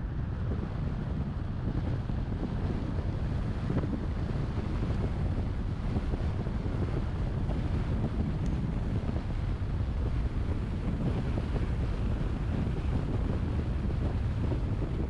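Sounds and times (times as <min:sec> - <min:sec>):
car road rumble: 0:00.0 - 0:15.0
wind buffeting microphone: 0:00.0 - 0:15.0.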